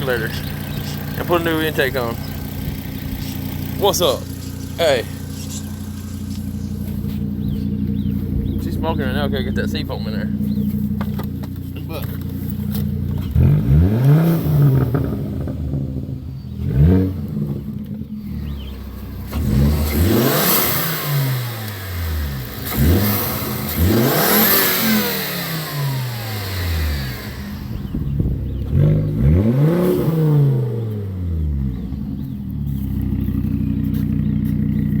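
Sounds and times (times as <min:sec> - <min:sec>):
car engine revving and idling: 0:00.0 - 0:35.0.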